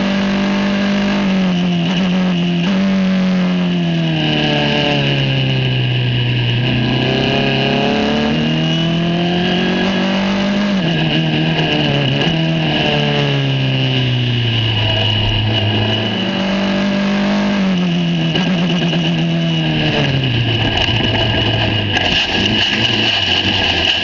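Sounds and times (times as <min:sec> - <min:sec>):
racing car engine revving: 0:00.0 - 0:24.0
steady high whine: 0:03.1 - 0:24.0.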